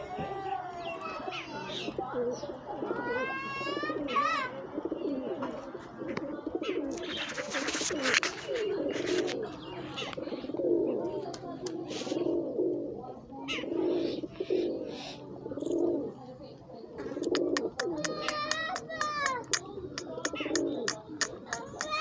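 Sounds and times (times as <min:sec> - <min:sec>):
pigeons cooing: 0:01.1 - 0:22.0.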